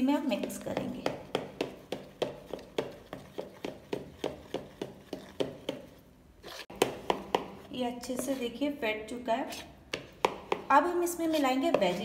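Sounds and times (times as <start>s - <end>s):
spoon beating batter in a bowl: 0.0s - 12.0s.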